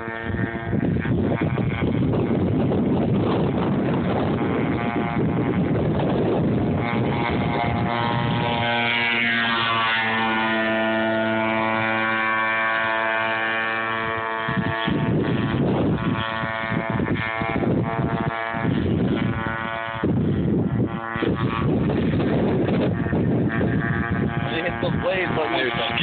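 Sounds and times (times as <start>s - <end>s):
model boat motor whining: 0.0s - 26.0s.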